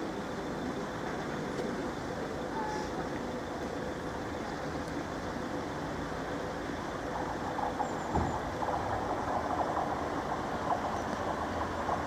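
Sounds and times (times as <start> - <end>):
train rail rumble: 0.0 - 12.0.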